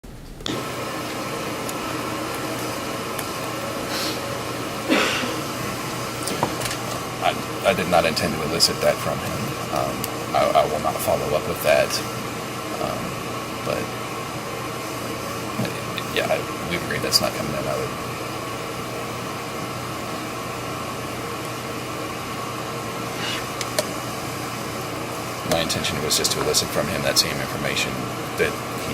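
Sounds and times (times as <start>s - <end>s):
room hiss: 0.0s - 28.9s.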